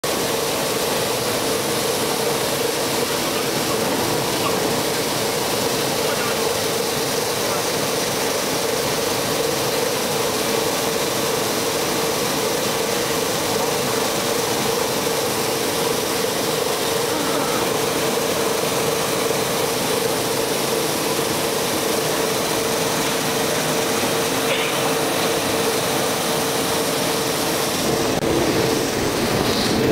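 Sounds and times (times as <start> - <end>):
peeling machine rollers humming: 0.0 - 29.9
spray water hiss: 0.1 - 29.9.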